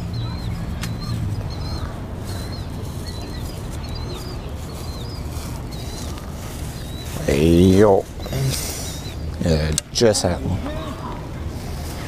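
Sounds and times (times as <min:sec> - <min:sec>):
bird chirping: 0:00.0 - 0:11.1.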